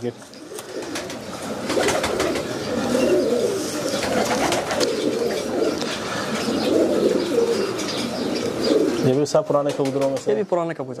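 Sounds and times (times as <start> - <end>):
pigeons cooing: 0.3 - 10.4.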